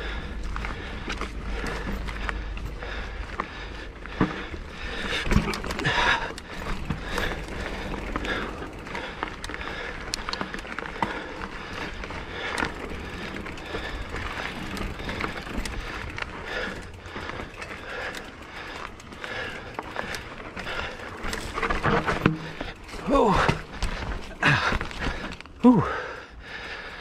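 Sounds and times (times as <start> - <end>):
bike tyres crunching over rock: 0.0 - 26.9
bike rattling: 0.0 - 27.0.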